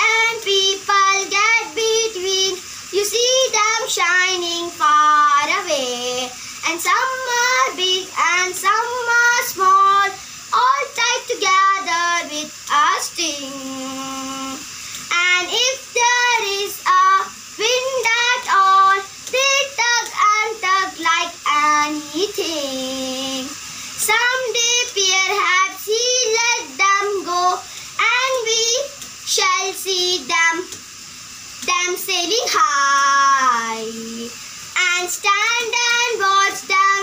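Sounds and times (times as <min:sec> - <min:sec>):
child singing: 0:00.0 - 0:30.8, 0:31.6 - 0:37.0.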